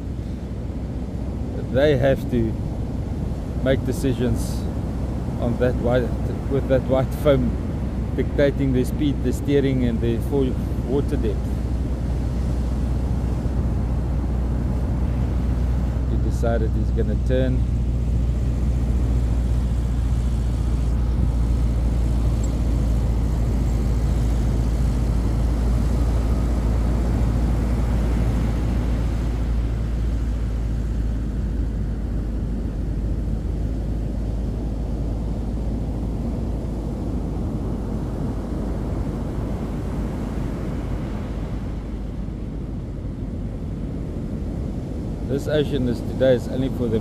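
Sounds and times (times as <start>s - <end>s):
outboard motors droning: 0.0s - 47.0s
surf noise: 0.0s - 47.0s.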